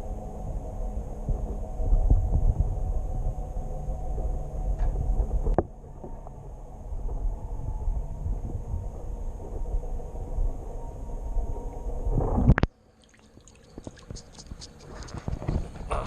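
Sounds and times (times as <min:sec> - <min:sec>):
muffled underwater rumble: 0:00.0 - 0:12.8, 0:13.6 - 0:16.0.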